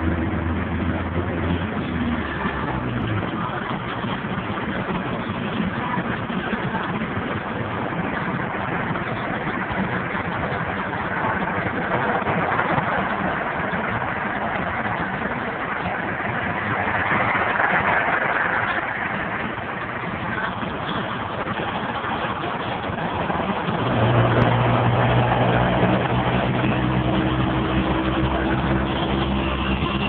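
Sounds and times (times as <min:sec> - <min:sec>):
low engine drone: 0:00.0 - 0:30.0
road and tyre noise: 0:00.0 - 0:30.0.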